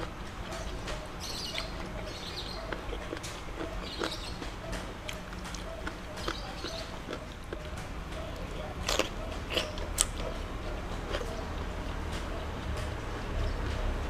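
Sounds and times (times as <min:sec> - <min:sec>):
wet chewing and smacking: 0:00.0 - 0:13.8.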